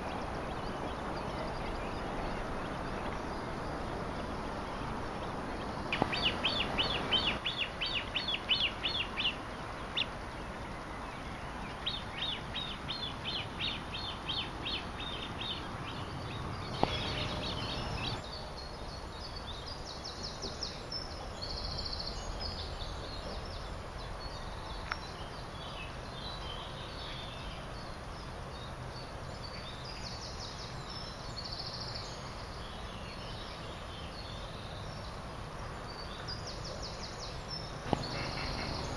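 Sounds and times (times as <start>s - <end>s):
songbirds chirping: 0.0s - 38.9s
steady outdoor hiss: 0.0s - 38.9s.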